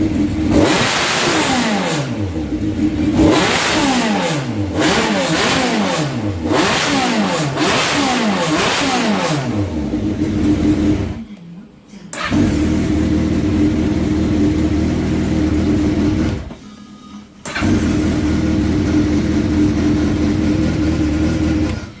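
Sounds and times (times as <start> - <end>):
motorcycle engine running: 0.0 - 11.2, 12.2 - 16.5, 17.5 - 22.0.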